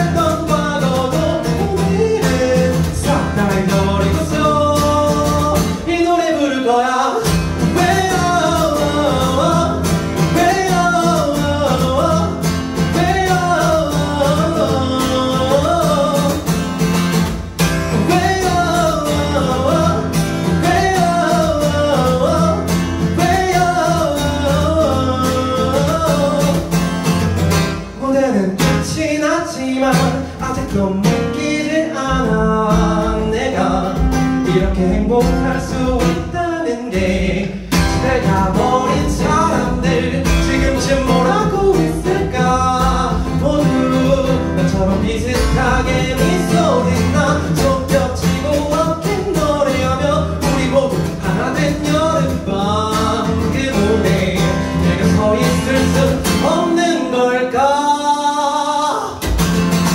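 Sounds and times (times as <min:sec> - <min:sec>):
man singing: 0:00.0 - 0:59.5
strummed acoustic guitar: 0:00.0 - 0:59.9.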